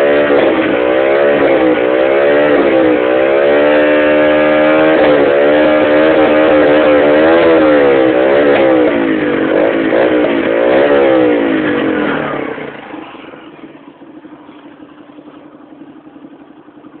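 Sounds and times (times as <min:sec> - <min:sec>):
motorcycle engine idling: 0:00.0 - 0:17.0
motorcycle engine revving: 0:00.0 - 0:17.0.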